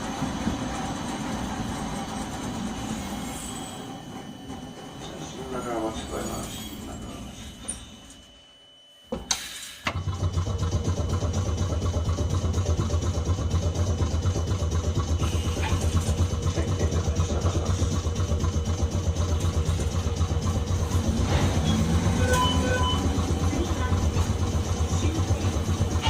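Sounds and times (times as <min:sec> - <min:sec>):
tram machinery droning: 0:00.0 - 0:26.0.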